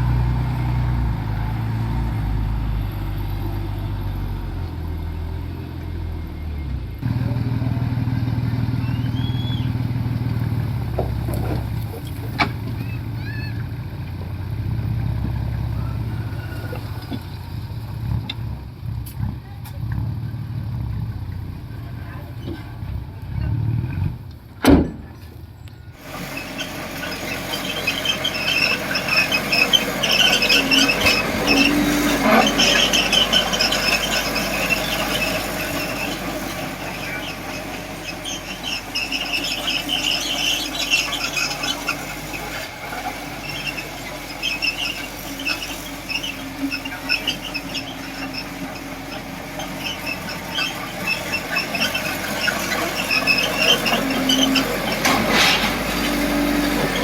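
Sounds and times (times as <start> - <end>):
model bulldozer tracks squealing: 0.0 - 19.8, 24.9 - 57.0.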